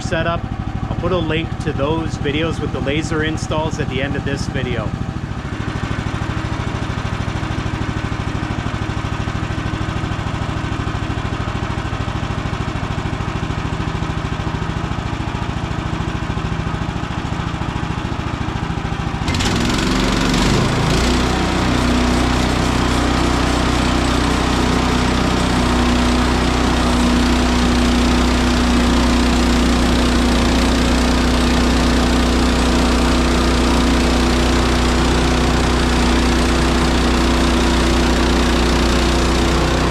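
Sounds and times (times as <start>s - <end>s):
sawmill gas engine revving: 0.0s - 39.9s.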